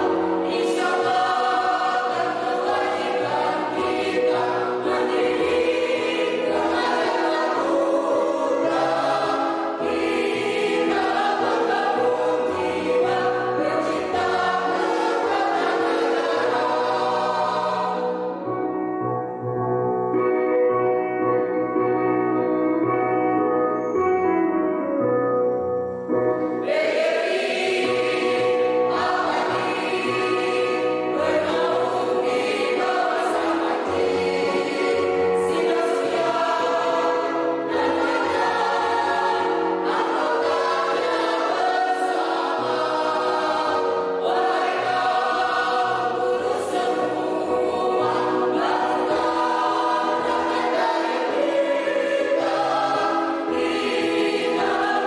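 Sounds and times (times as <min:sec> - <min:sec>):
mixed choir singing in harmony: 0:00.0 - 0:18.9, 0:26.2 - 0:55.0.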